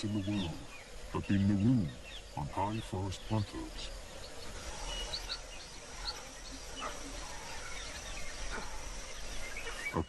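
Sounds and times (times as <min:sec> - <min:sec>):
bird chirps: 0:00.0 - 0:10.0
high insect drone: 0:00.0 - 0:10.0
soft background hiss: 0:00.0 - 0:10.0.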